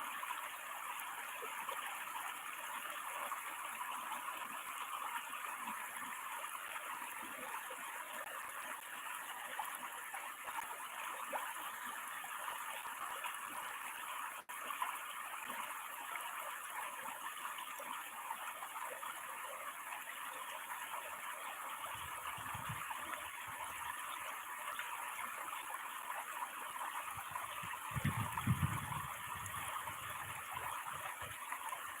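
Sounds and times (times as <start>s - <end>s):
water pouring over a weir: 0.4s - 32.0s.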